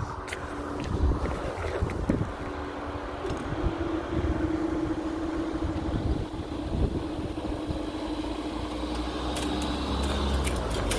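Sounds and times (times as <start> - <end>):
barrier mechanism humming: 0.0 - 10.9.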